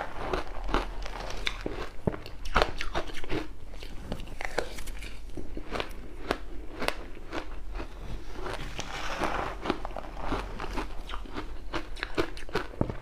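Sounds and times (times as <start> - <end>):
crushed ice being chewed: 0.0 - 13.0.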